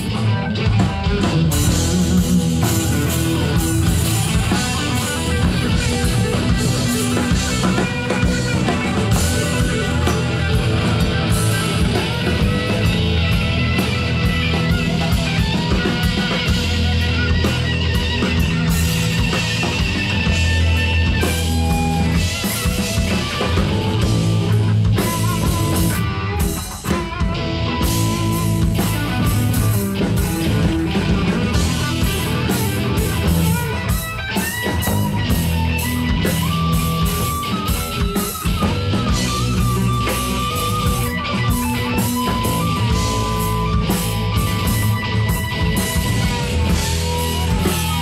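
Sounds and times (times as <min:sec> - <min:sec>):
live blues-rock band playing: 0:00.0 - 0:48.0.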